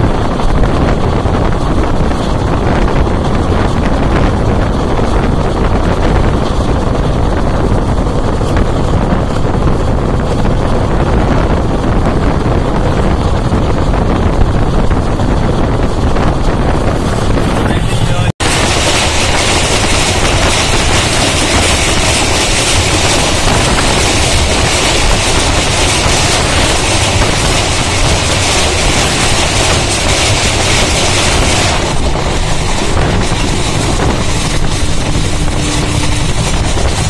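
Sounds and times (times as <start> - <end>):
train wheel and rail noise: 0.0 - 37.0
wind rushing: 0.0 - 37.0.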